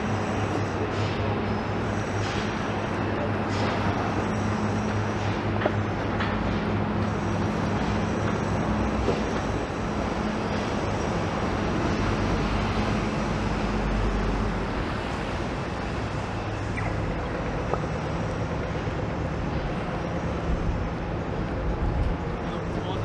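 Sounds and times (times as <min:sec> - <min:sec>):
engines humming in traffic: 0:00.0 - 0:23.0.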